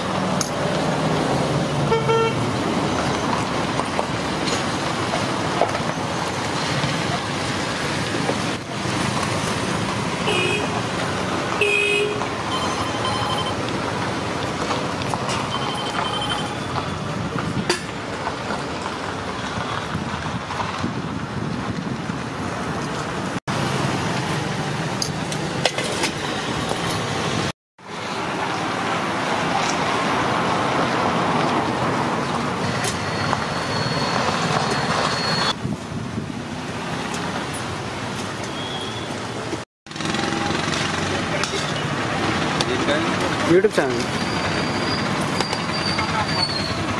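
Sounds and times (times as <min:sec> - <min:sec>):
roadside traffic noise: 0:00.0 - 0:46.9.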